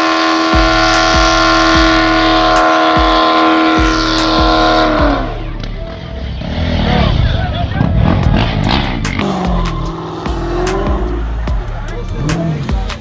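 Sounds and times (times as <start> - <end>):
car engine at high revs: 0.0 - 13.0
tyres squealing: 0.0 - 13.0.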